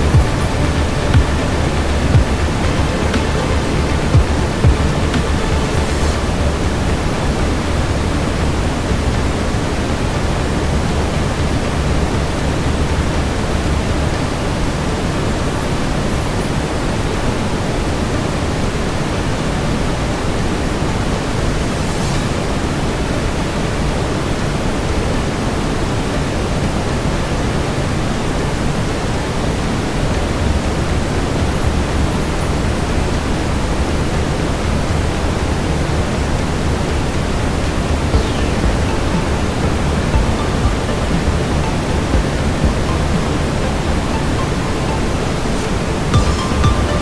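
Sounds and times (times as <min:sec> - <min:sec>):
brown noise hiss: 0:00.0 - 0:47.0.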